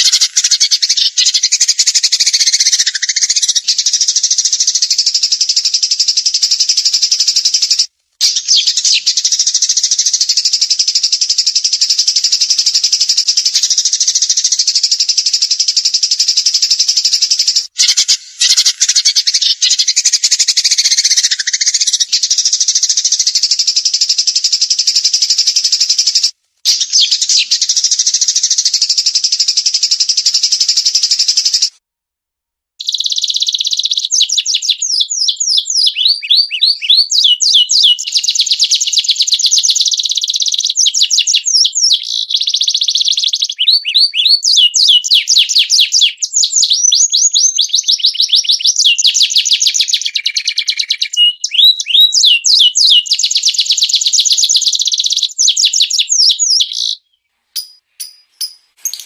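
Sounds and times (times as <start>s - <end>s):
songbird rapid trill: 0.0s - 31.7s, 32.8s - 57.0s, 57.6s - 59.0s.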